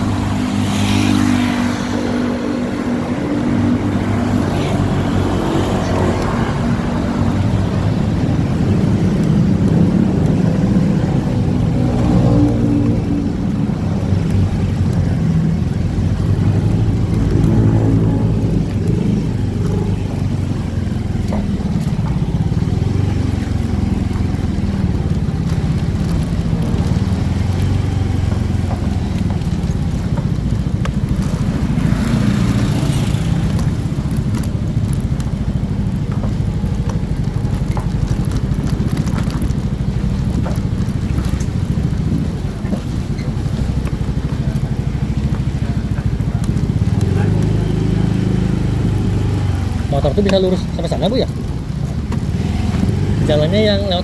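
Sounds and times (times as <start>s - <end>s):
motorcycle engine: 0.0s - 54.0s
road and wind noise: 0.0s - 54.0s.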